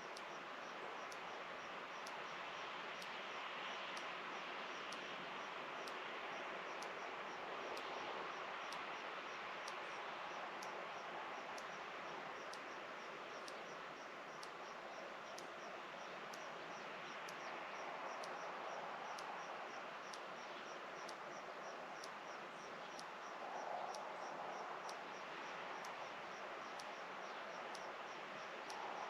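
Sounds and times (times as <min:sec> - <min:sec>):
background hiss: 0:00.0 - 0:29.0
faint sharp tick: 0:00.0 - 0:29.0.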